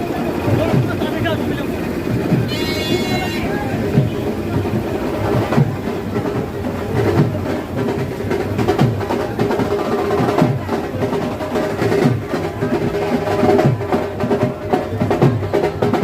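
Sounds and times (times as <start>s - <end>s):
music with fast dense drumming: 0.0s - 16.0s.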